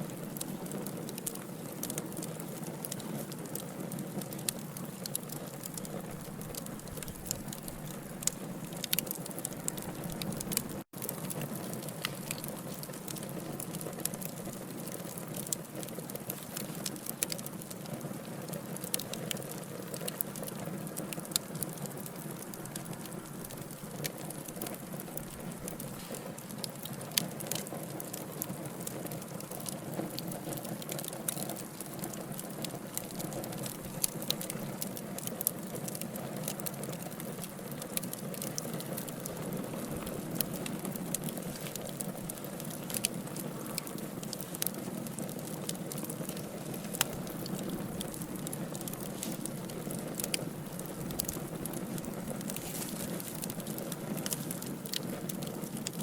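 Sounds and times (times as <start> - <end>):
burning logs crackling and popping: 0.0 - 56.0
wood fire hissing and rumbling: 0.0 - 56.0.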